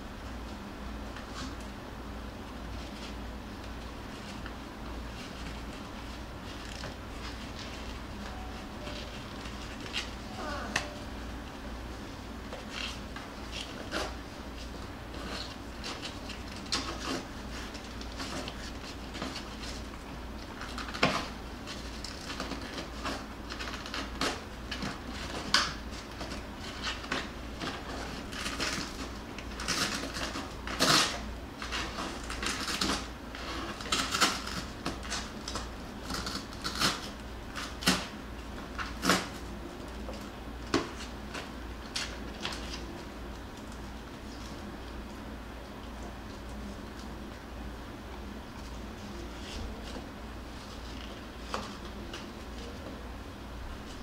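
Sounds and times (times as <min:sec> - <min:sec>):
steady low hum: 0:00.0 - 0:54.0
puppies scratching in a box: 0:02.4 - 0:47.5.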